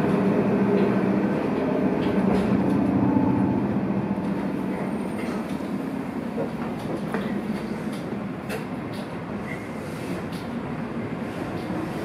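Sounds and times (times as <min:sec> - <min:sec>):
electric train motor hum and rumble: 0:00.0 - 0:12.0.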